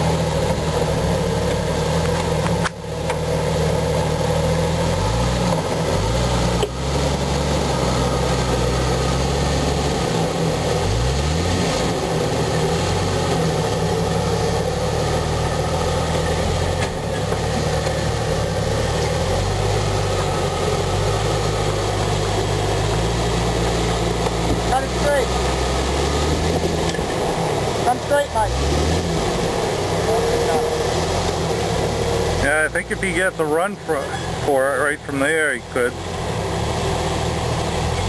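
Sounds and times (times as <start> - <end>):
engine revving: 0.0 - 38.0
engine running at low revs: 0.0 - 38.0.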